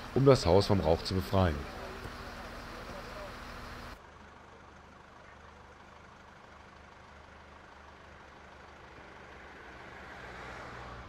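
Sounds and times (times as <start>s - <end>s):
fire engine idling: 0.0s - 9.3s.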